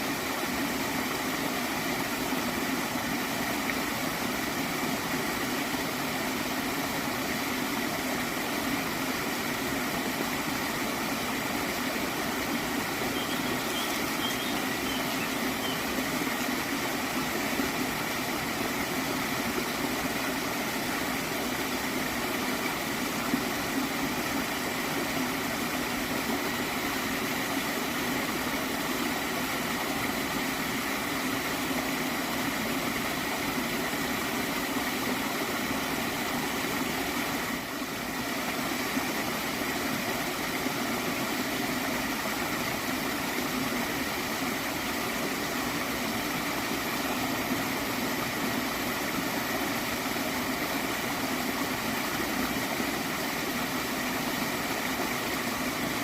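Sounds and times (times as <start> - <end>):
water stream flowing and gurgling: 0.0 - 56.0.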